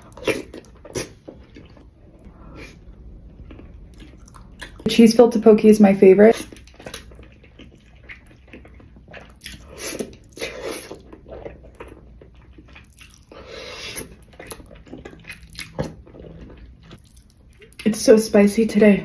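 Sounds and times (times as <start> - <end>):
person chewing noodles: 0.0 - 4.9, 6.3 - 17.8.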